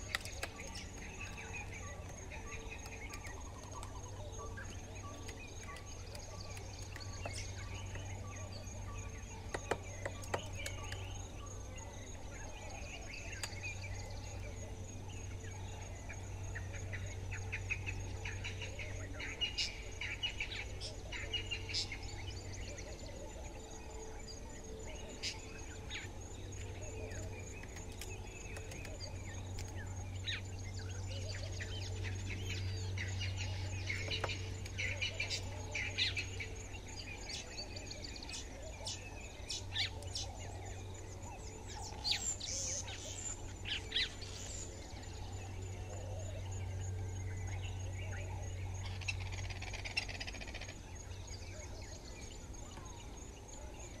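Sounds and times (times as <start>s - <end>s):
birds calling and chirping: 0.0s - 54.0s
high insect trill: 0.0s - 54.0s.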